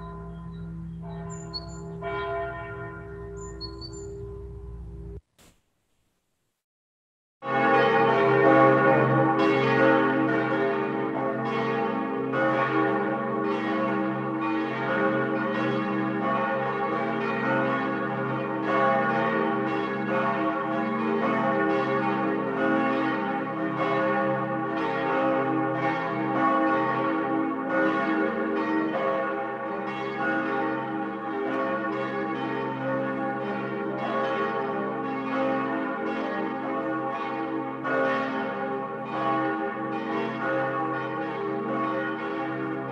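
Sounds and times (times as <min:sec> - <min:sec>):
church bells pealing: 0:00.0 - 0:05.0, 0:07.4 - 0:42.9.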